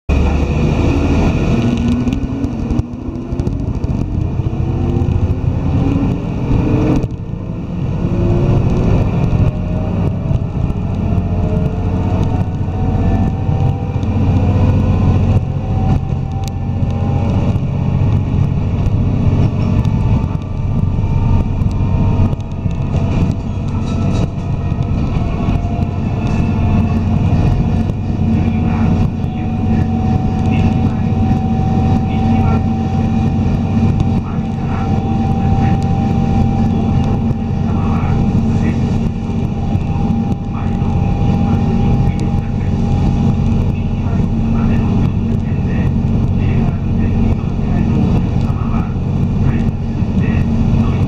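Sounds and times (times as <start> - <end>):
train engine rumble and whine: 0.1 - 51.0.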